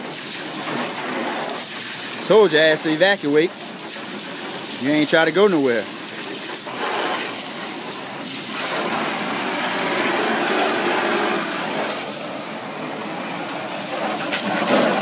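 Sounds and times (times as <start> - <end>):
hose water jet splashing: 0.0 - 15.0.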